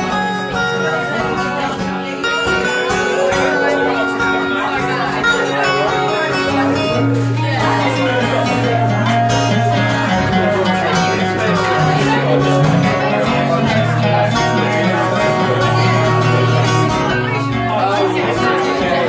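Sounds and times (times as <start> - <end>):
two guitars playing: 0.0 - 19.0.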